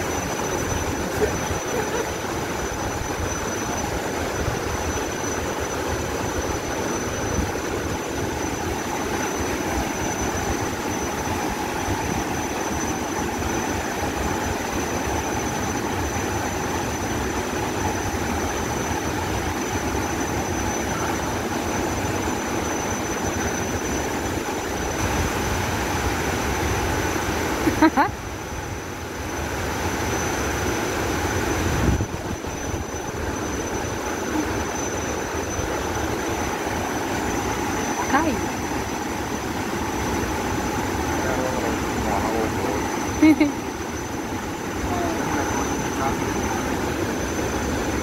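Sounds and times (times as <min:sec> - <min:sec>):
waterfall roaring: 0:00.0 - 0:28.0, 0:28.8 - 0:48.0.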